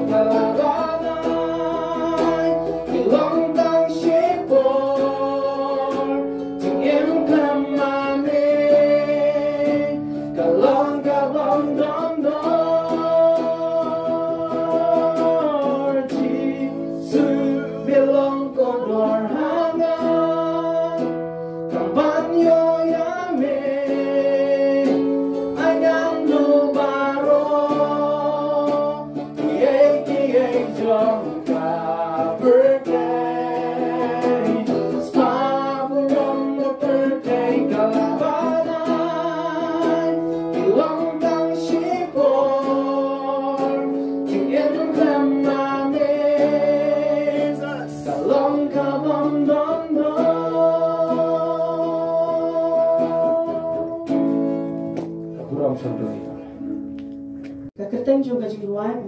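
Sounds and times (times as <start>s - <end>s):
man and woman singing: 0.0s - 54.8s
strummed acoustic guitar: 0.0s - 57.7s.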